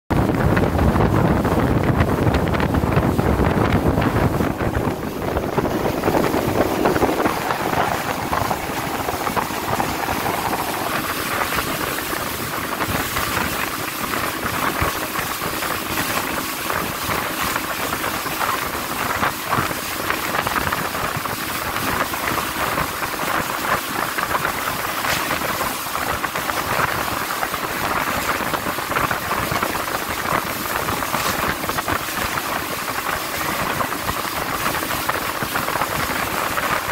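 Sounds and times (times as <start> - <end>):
water rushing: 0.1 - 36.9
wind buffeting microphone: 0.1 - 36.9
boat engine hum: 0.2 - 36.9.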